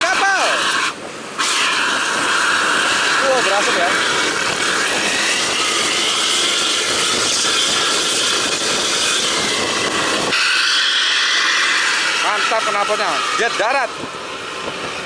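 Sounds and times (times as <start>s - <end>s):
bus exhaust rushing: 0.0s - 15.0s.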